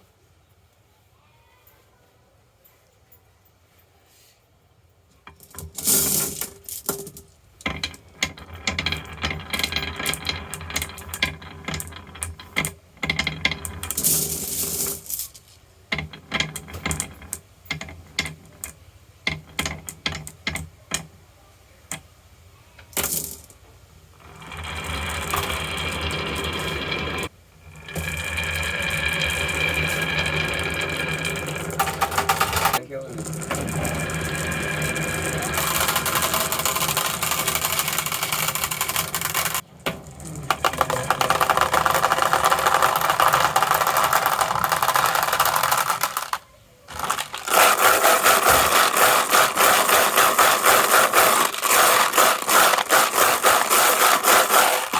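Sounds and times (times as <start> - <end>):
marbles clattering down wooden run: 5.4 - 20.7, 24.2 - 54.9.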